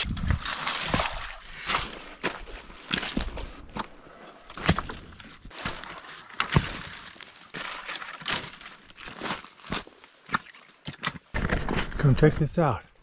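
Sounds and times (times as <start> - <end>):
footsteps on gravel and stones: 0.0 - 12.2.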